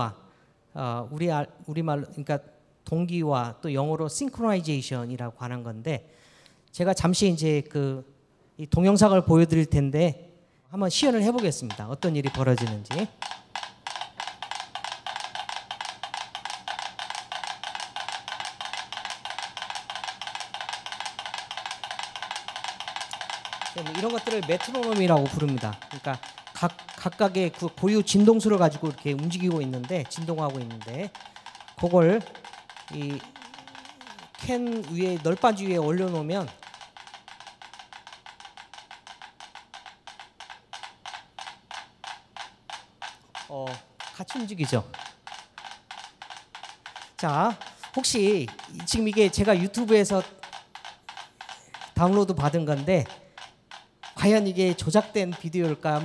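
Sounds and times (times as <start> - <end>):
metronomes ticking: 10.8 - 56.0.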